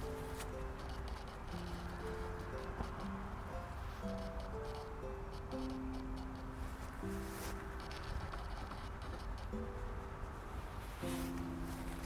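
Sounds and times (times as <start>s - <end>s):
slow held-note music: 0.0s - 12.0s.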